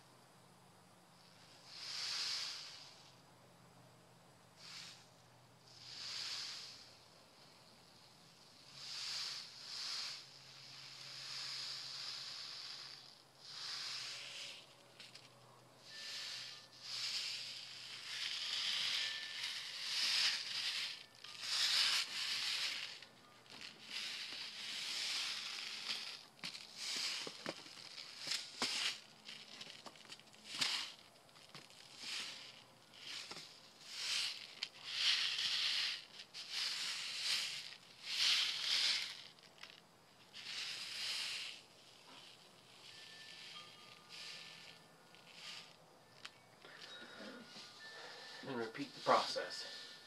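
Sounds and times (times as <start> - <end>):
seeds rattling in shaken packet: 1.2 - 3.2, 4.6 - 5.1, 5.7 - 50.0.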